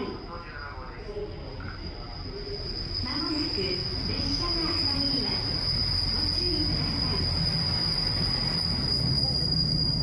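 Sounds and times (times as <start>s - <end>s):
diesel train engine and wheel rumble: 0.0s - 10.0s.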